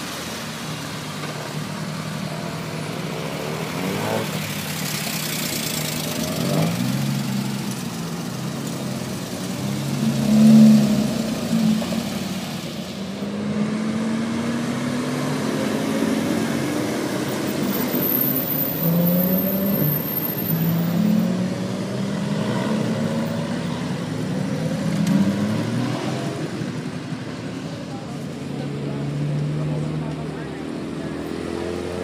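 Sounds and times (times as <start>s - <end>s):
sports car engines accelerating: 0.2s - 32.0s.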